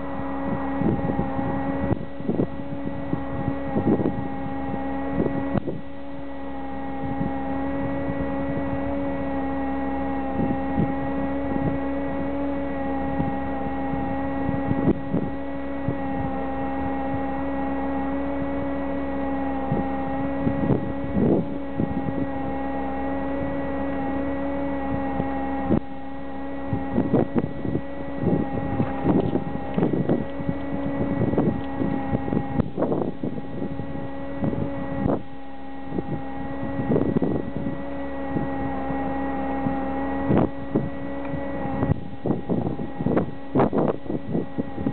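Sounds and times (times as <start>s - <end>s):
steady mechanical hum: 0.0s - 44.9s
wind buffeting microphone: 0.0s - 44.9s.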